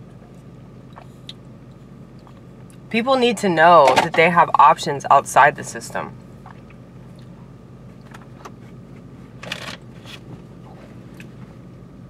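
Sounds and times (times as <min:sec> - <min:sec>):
car cabin running hum: 0:00.0 - 0:12.0.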